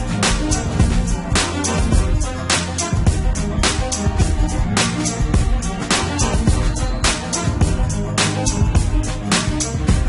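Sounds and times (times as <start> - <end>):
drum beat: 0.0 - 10.0
sustained bass line: 0.0 - 10.0.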